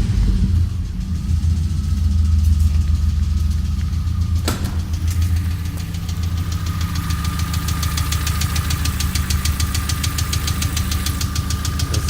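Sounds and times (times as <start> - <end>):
car engine idling with knock: 0.0 - 12.0.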